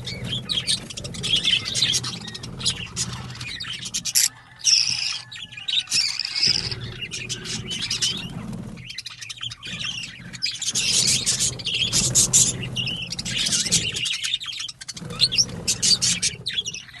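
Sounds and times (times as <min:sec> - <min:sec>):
parrot chick rasping chirps: 0:00.0 - 0:17.0.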